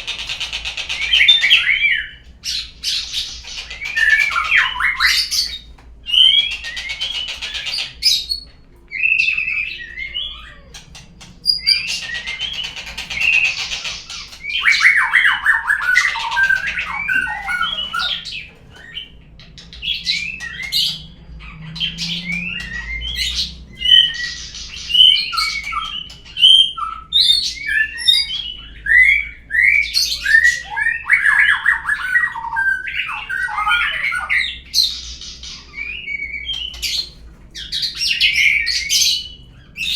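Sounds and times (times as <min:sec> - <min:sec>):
bird song whistles and chirps: 0:00.2 - 0:39.9.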